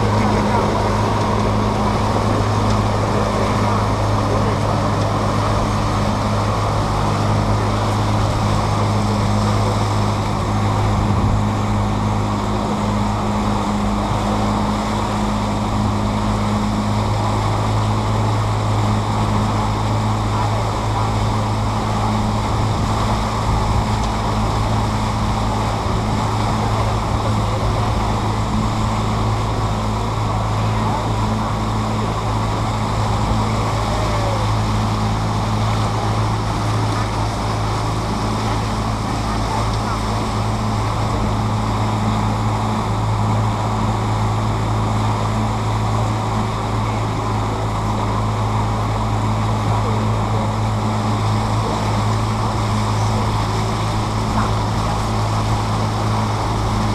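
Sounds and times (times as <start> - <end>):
boat engine humming: 0.0 - 56.9
rushing water: 0.0 - 56.9.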